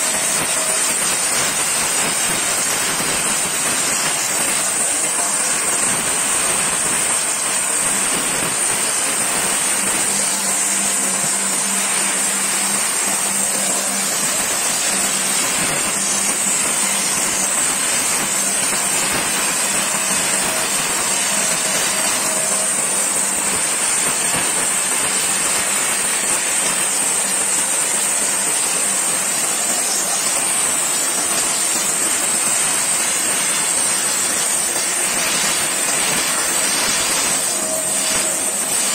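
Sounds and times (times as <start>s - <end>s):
gas torch flame hissing: 0.0s - 38.9s.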